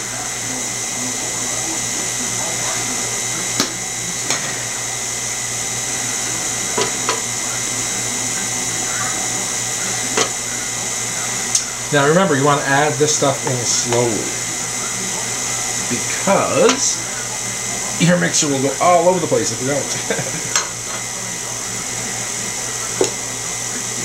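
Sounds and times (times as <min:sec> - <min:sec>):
stand mixer motor humming: 0:00.0 - 0:24.0.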